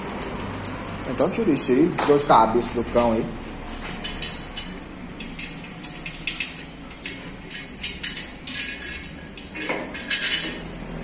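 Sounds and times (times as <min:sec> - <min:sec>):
tools clinking against metal: 0:00.0 - 0:02.7, 0:03.8 - 0:10.7.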